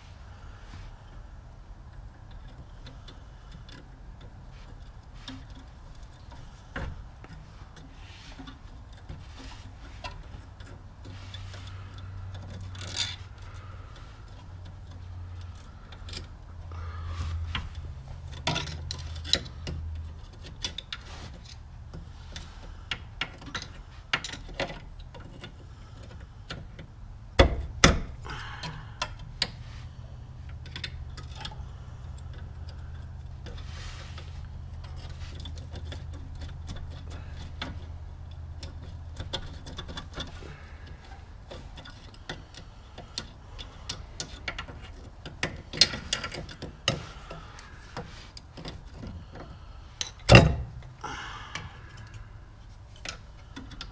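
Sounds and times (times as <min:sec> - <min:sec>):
low steady hum: 0:00.0 - 0:53.9
metal parts clicking and clinking: 0:01.9 - 0:53.9.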